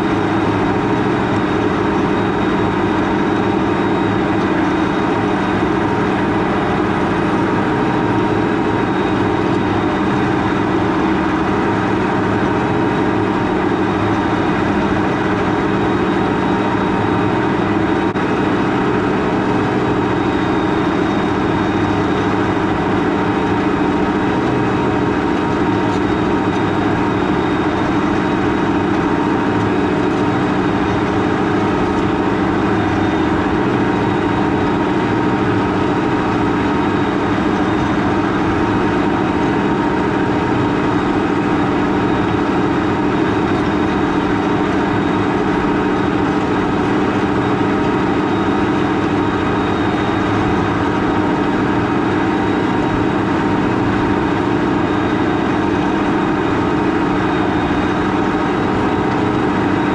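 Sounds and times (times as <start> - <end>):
tractor diesel engine running: 0.0 - 59.9
whining tones: 0.0 - 59.9.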